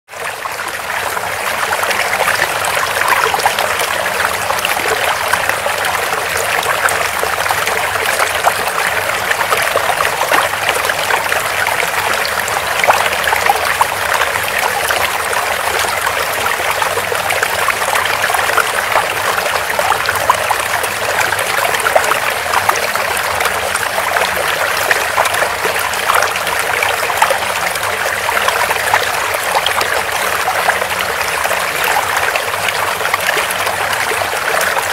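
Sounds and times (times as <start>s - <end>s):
water trickling: 0.4s - 34.9s.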